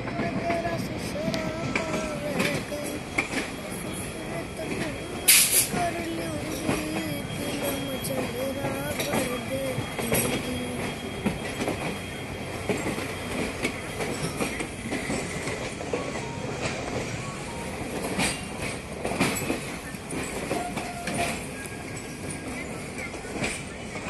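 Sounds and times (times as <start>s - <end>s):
train wheels rumbling on rails: 0.0s - 24.0s
wheels clacking over rail joints: 0.0s - 24.0s.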